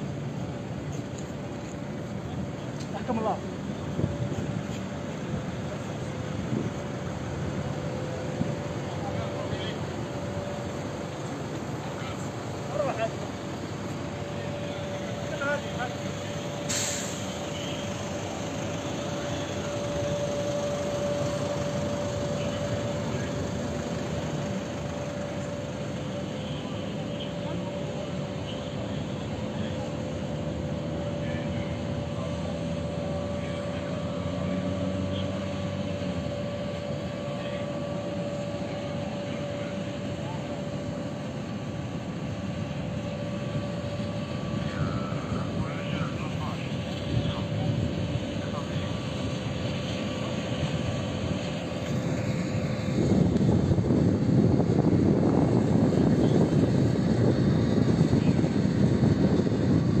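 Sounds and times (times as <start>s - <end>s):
aircraft engines running: 0.0s - 60.0s.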